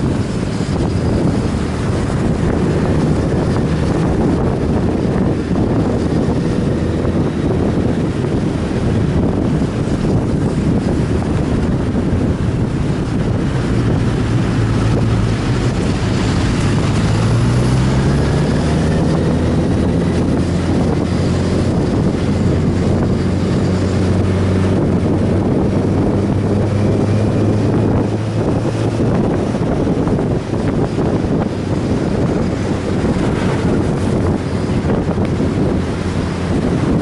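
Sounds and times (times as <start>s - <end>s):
motorcycle engine running: 0.0s - 37.0s
wind noise on microphone: 0.0s - 37.0s.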